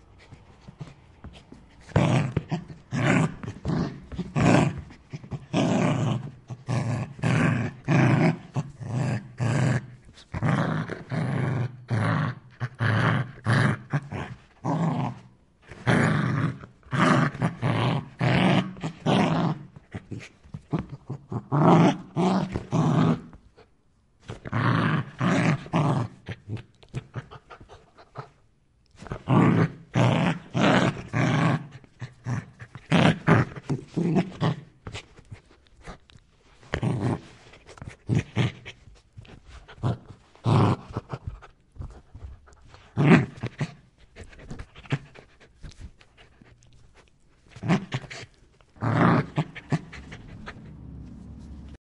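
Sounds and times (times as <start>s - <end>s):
dog growling: 0.6s - 23.4s, 24.3s - 28.4s, 29.0s - 36.0s, 36.7s - 51.8s.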